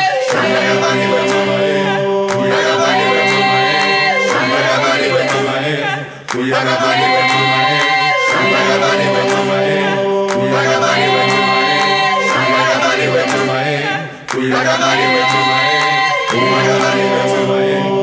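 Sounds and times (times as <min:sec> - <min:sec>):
group singing a cappella: 0:00.0 - 0:18.0.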